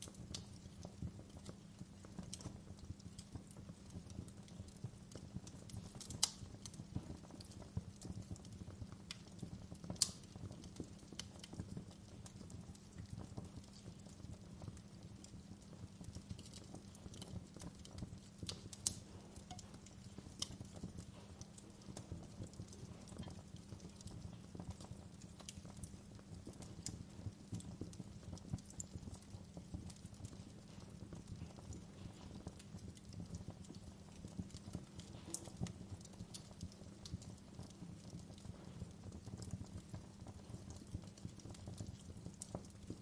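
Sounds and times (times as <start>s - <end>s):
low rumble of flame: 0.0s - 43.0s
wood fire crackling: 0.0s - 43.0s.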